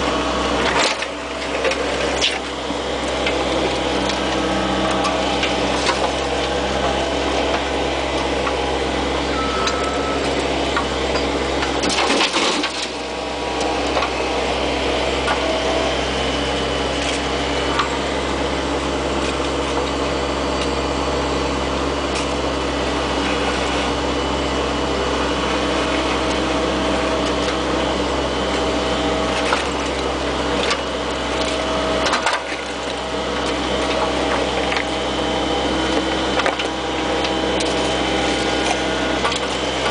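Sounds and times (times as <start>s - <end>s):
excavator knocking and scraping: 0.0s - 20.8s, 25.4s - 39.9s
excavator diesel engine running: 0.0s - 39.9s.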